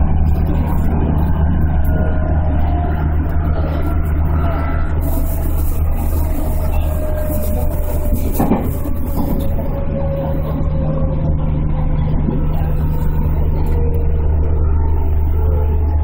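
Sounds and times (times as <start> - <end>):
faint train whine: 0.0 - 16.0
train wheels rumbling on rail: 0.0 - 16.0.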